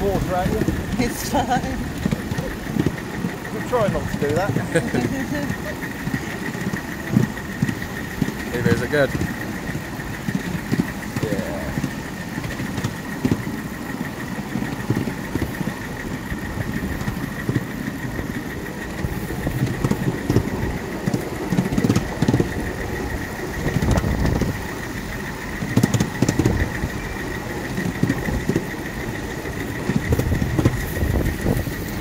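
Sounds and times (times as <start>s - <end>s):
high steady whine: 0.0s - 32.0s
rail joint clicks: 0.0s - 32.0s
wheels rumbling on rail: 0.0s - 32.0s.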